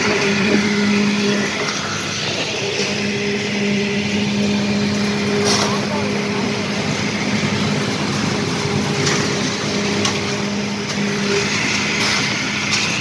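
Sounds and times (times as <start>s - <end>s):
machinery engine humming: 0.0s - 13.0s.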